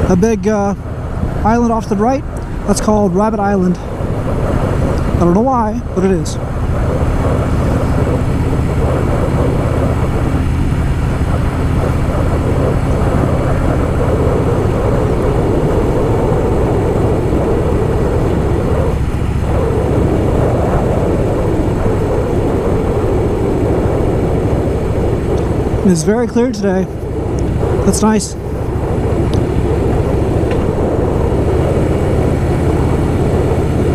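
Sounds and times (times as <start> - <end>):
motorcycle engine cruising: 0.0 - 33.9
wind rushing over microphone: 0.0 - 33.9.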